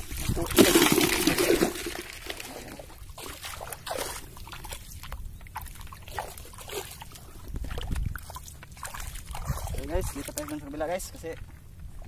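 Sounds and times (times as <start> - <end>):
shallow water sloshing over rocks: 0.0 - 12.0
small splashes and clicks: 0.2 - 11.6.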